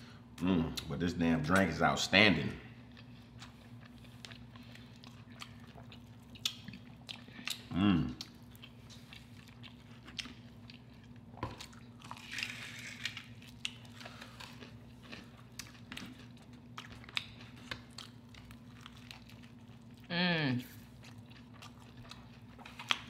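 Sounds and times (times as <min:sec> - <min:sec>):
faint steady hum: 0:00.0 - 0:23.0
chewing fried shrimp: 0:02.4 - 0:23.0.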